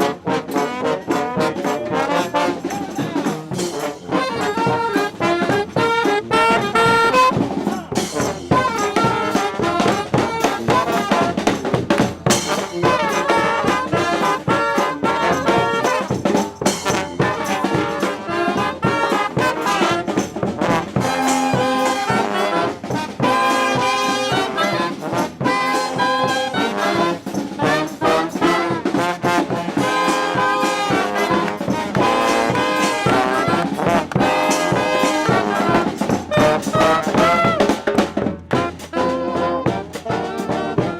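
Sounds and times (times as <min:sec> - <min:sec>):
drum beat: 0:00.0 - 0:40.9
trumpets and trombones playing: 0:00.0 - 0:40.9.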